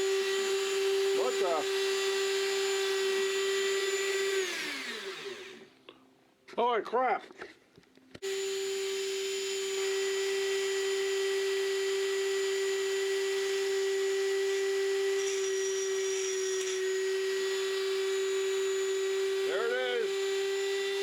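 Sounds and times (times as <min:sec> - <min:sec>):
rotary tool high whine: 0:00.0 - 0:05.7, 0:08.2 - 0:21.0.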